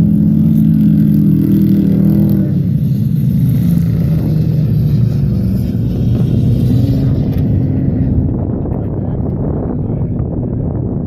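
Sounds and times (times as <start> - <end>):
racing car engines revving: 0.0 - 10.3.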